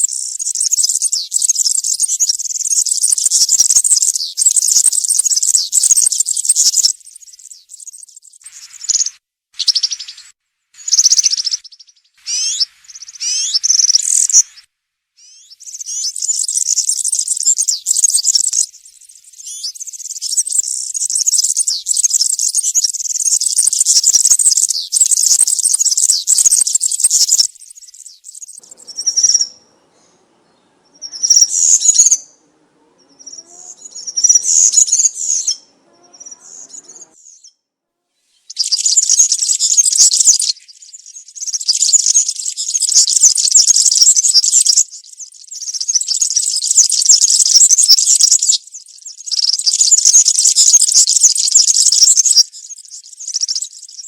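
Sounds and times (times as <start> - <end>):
bird twittering song: 0.0 - 37.6, 38.3 - 54.0.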